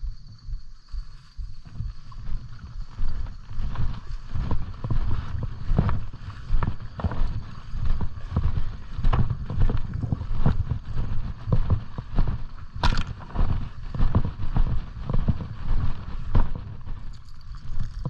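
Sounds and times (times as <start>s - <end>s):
footsteps through brush: 0.9s - 18.0s.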